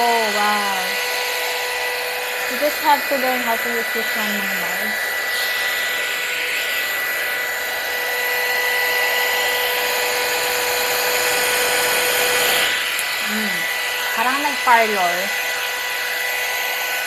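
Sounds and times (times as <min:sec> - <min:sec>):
hot air brush whirring: 0:00.0 - 0:17.0.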